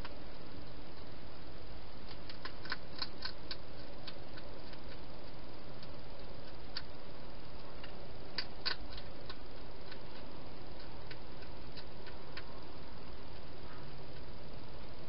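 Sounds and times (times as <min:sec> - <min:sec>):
steady hiss: 0:00.0 - 0:15.0
hedgehog eating clicks and crunches: 0:01.9 - 0:14.4.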